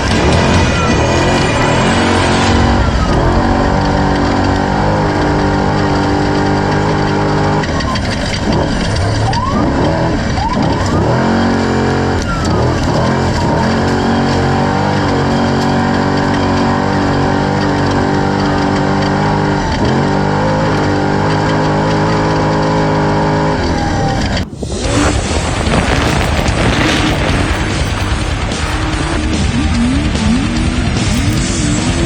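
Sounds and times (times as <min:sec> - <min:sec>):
engines revving: 0:00.0 - 0:32.0.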